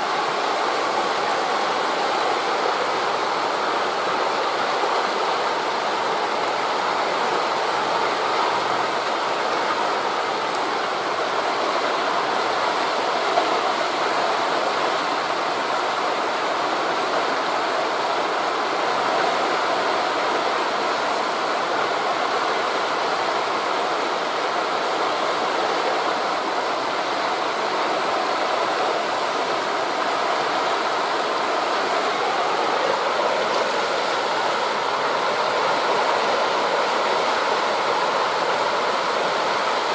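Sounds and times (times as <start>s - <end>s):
distant waves breaking: 0.0s - 39.9s
wind through forest leaves: 0.0s - 39.9s.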